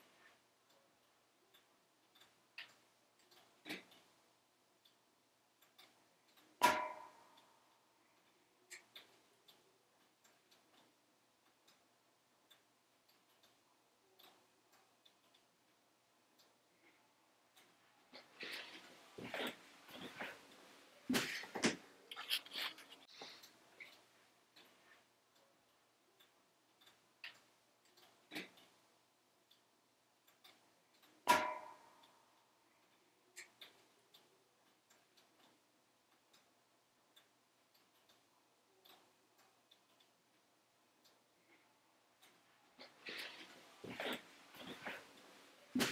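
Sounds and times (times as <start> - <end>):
soft background hiss: 0.0 - 45.9
wood fire crackling in a stove: 0.0 - 45.9.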